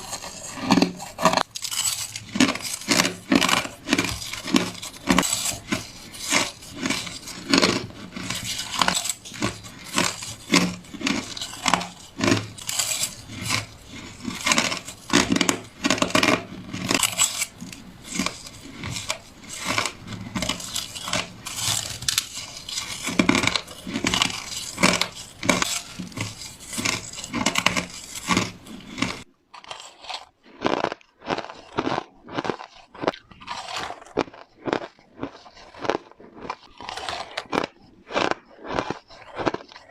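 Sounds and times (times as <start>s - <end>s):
crunching ice with teeth: 0.0s - 39.9s.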